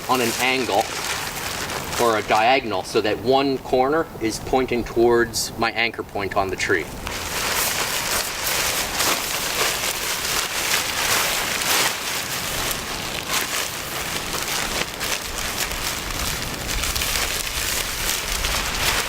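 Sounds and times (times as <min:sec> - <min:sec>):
nylon tarp rustling and crackling: 0:00.0 - 0:19.0.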